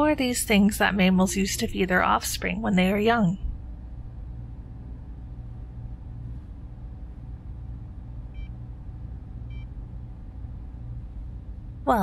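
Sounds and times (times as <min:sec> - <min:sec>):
low ambient drone: 0:00.0 - 0:12.0.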